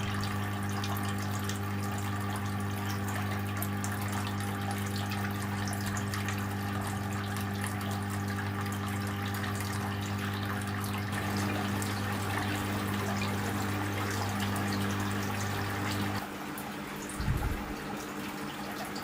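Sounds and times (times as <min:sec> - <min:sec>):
small water pump humming: 0:00.0 - 0:19.0
water trickling and splashing: 0:00.0 - 0:19.0.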